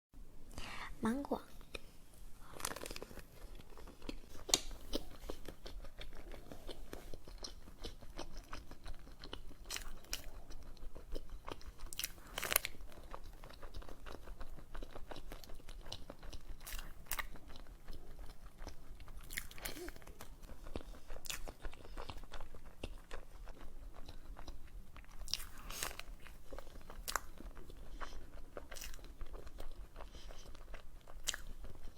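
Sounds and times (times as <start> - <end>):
crunching bites of dessert: 2.5 - 31.9
chewing with moist clicks: 2.6 - 31.9.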